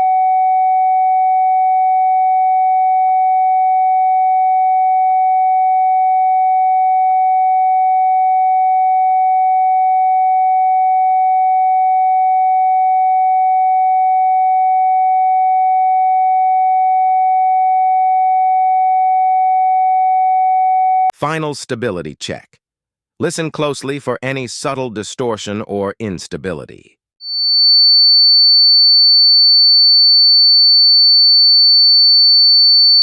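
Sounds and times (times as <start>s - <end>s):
sine test tone: 0.0s - 21.1s, 27.2s - 33.0s.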